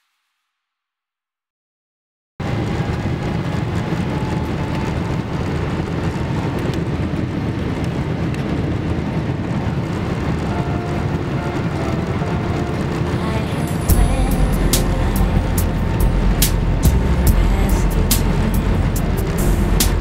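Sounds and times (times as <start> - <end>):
airliner engines and wheels rumbling: 2.4 - 20.0.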